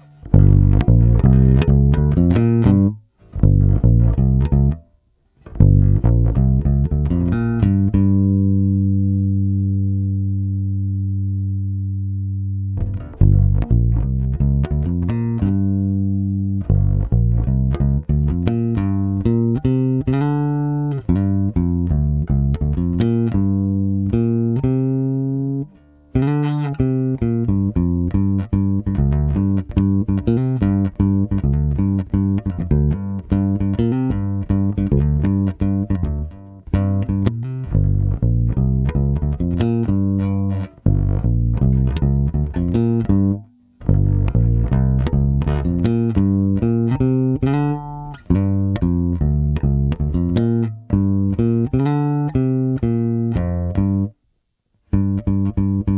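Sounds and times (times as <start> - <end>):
electric bass plucked notes: 0.0 - 54.2, 54.9 - 55.9.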